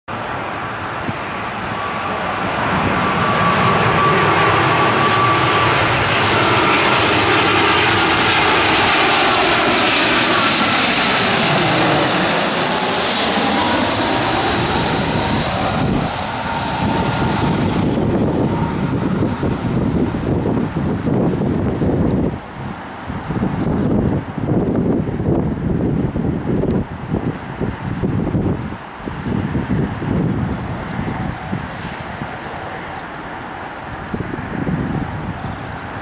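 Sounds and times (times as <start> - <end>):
jet airliner passing overhead: 0.1 - 36.0.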